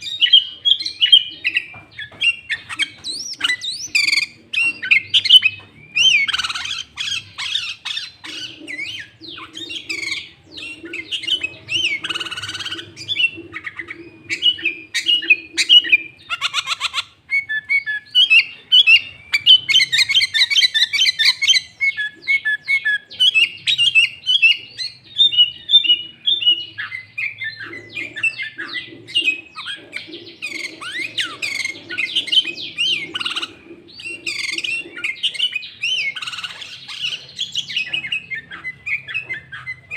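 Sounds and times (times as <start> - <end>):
bird singing varied whistled notes: 0.0 - 39.9.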